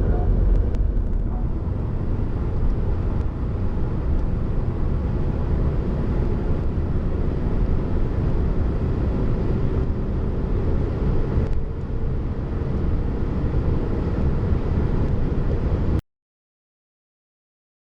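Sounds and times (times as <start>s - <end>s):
diesel car engine running: 0.0s - 16.0s
road noise: 0.0s - 16.0s.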